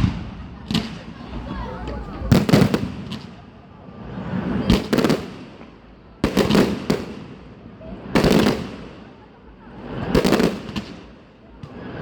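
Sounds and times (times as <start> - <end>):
fireworks cracking and booming: 0.0 - 12.0.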